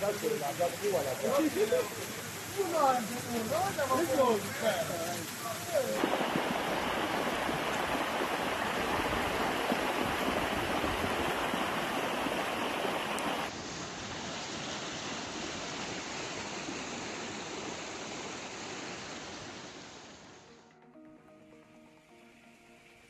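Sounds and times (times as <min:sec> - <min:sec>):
floodwater rushing: 0:00.0 - 0:20.7
rain: 0:00.0 - 0:20.7.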